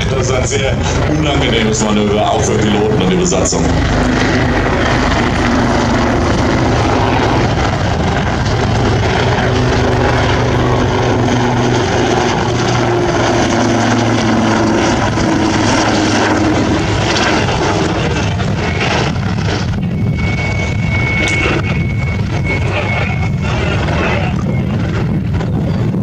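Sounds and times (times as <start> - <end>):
helicopter drone: 0.0 - 26.0.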